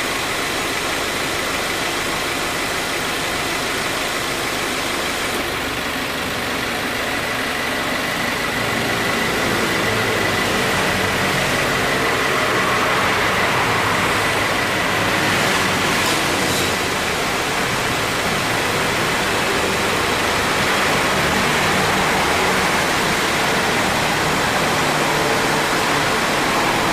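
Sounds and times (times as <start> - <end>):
car engine idling: 0.0 - 26.9.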